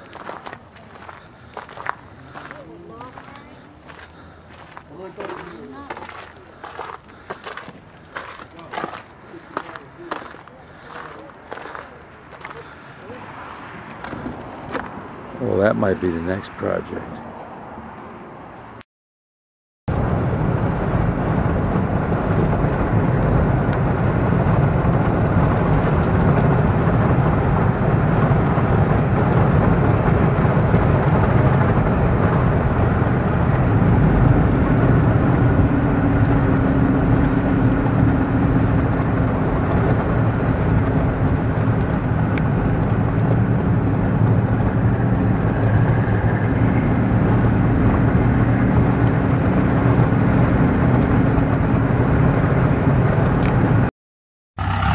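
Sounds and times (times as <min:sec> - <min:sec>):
car engine and road noise: 0:00.0 - 0:18.8, 0:19.9 - 0:53.9, 0:54.6 - 0:54.9.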